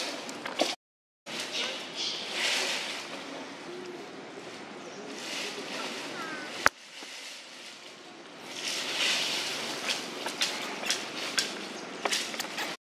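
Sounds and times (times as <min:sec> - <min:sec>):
dry leaves rustling: 0:01.3 - 0:12.7
leaves crackling underfoot: 0:01.3 - 0:12.8.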